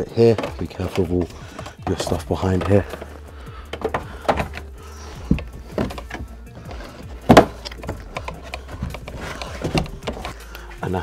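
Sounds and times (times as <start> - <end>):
knocks and clunks of plastic panel: 0.0 - 10.4
background music: 0.0 - 11.0.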